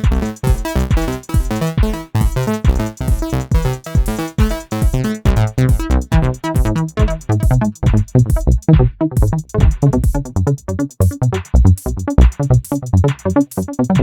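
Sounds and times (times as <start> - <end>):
electronic music beat: 0.0 - 14.0.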